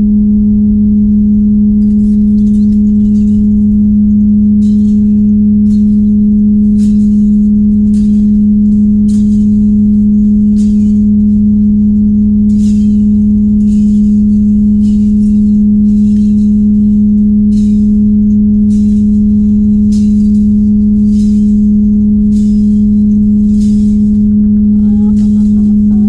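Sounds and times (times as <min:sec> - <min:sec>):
loud steady low hum: 0:00.0 - 0:26.0.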